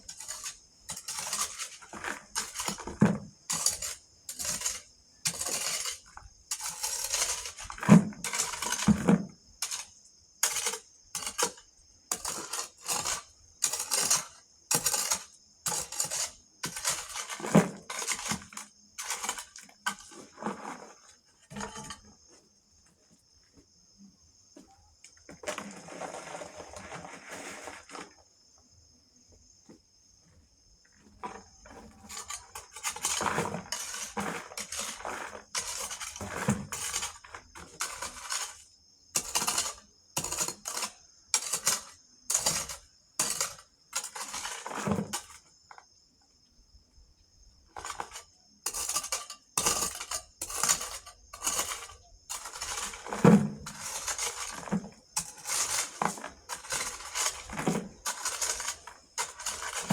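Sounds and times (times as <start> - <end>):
spade scraping gravel: 0.0 - 23.4, 24.9 - 28.5, 30.9 - 45.8, 47.7 - 59.9.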